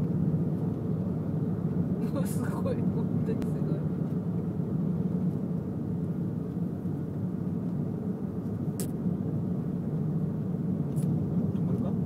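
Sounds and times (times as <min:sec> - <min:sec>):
car driving slowly: 0:00.0 - 0:12.0.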